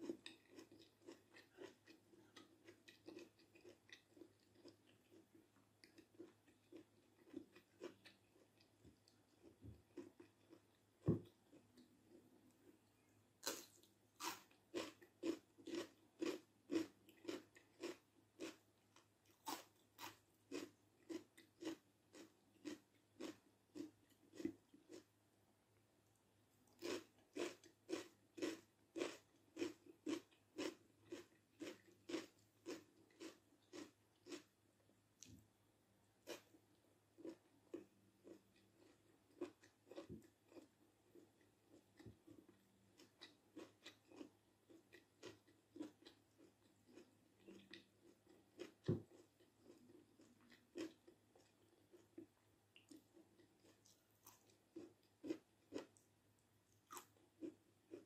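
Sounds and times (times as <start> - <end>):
crisp chewing of food: 0.0 - 25.1, 26.6 - 34.5, 36.2 - 58.0.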